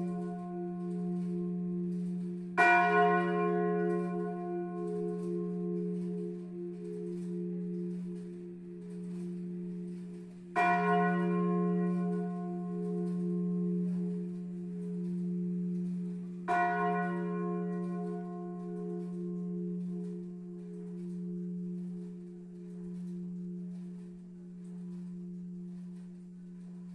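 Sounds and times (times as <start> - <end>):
large church bell ringing: 0.0 - 26.9.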